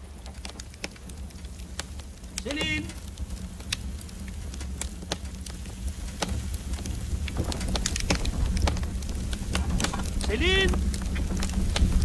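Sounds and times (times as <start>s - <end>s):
fire crackling and rumbling: 0.0s - 12.0s.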